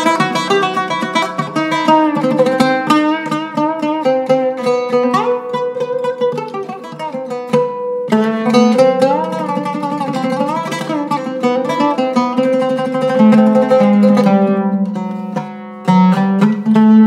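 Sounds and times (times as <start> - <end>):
oud played with plectrum: 0.0 - 17.0.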